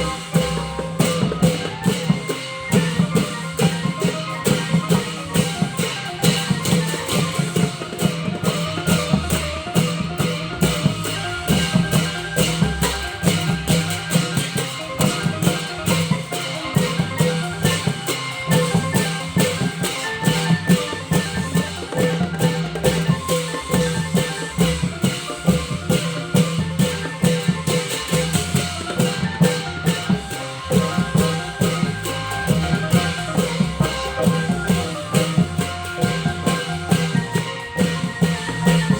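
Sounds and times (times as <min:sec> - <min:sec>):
drum ensemble playing: 0:00.0 - 0:38.9
held pitched melody notes: 0:00.0 - 0:38.9.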